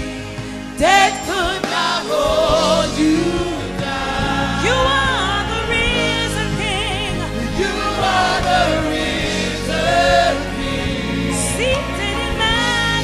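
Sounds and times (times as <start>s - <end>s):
gospel choir singing: 0.0s - 13.0s
instrumental backing: 0.0s - 13.0s
lead voice singing with vibrato: 0.0s - 13.0s.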